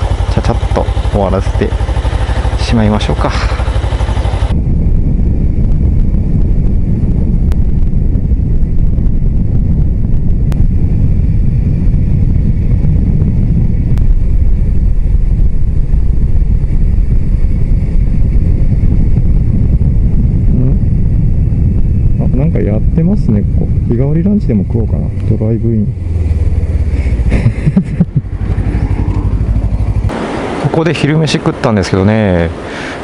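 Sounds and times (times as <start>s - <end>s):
wind buffeting a microphone: 0.0s - 33.0s.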